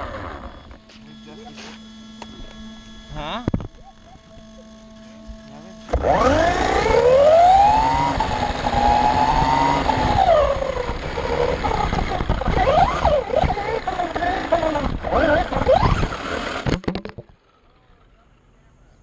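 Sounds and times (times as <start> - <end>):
rc car electric motor whining: 0.0 - 16.8.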